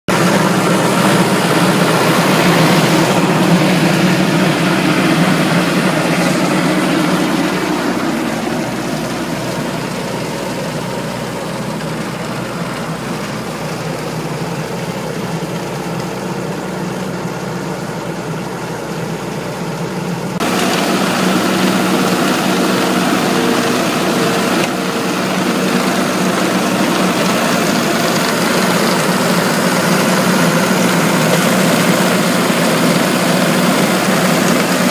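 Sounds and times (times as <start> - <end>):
harvester engine running: 0.0 - 34.9.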